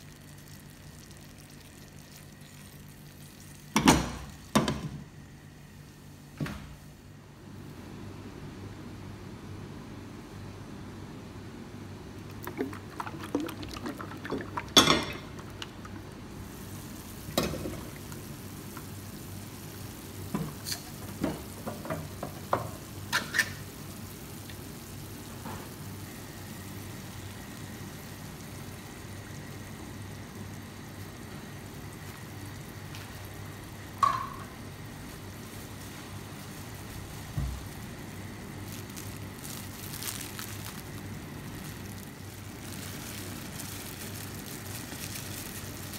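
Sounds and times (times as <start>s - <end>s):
steady low hum: 0.0s - 23.1s, 23.7s - 45.9s.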